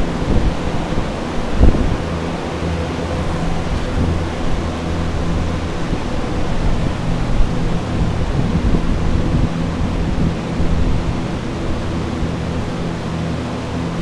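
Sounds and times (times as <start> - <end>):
air movers rushing air: 0.0 - 14.0
low motor hum: 0.0 - 14.0.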